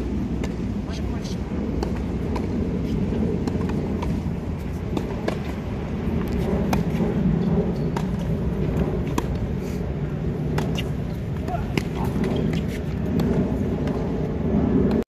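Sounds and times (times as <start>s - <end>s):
tennis balls struck by rackets: 0.0s - 14.2s
low rumble: 0.0s - 15.0s.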